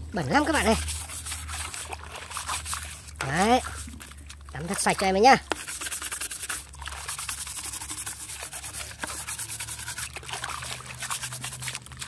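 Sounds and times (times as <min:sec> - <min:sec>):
brush scrubbing plastic in water: 0:00.2 - 0:12.0.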